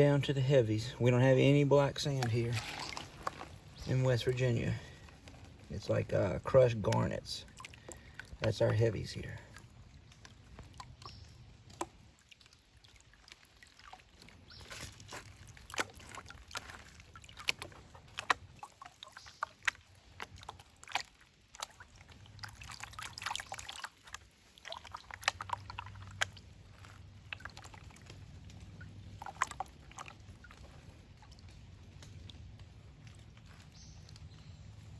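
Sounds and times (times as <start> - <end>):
water sloshing in a pan: 0.0 - 34.9.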